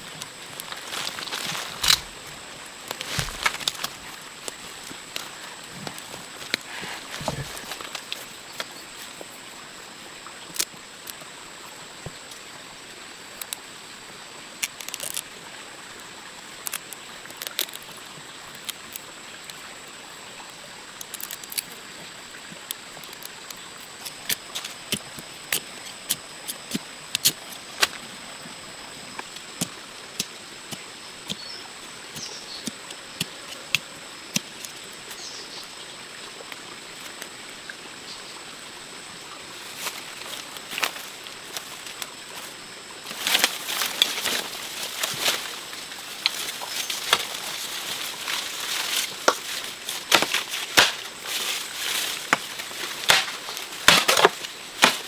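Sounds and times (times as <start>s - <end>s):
outdoor hiss: 0.0s - 55.0s.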